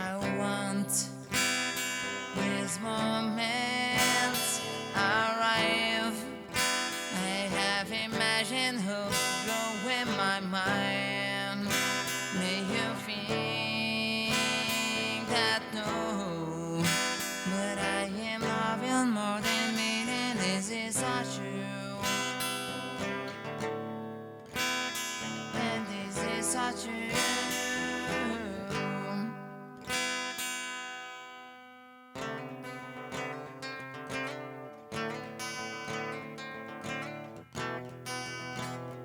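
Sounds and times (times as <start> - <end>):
strummed acoustic guitar: 0.0 - 39.0.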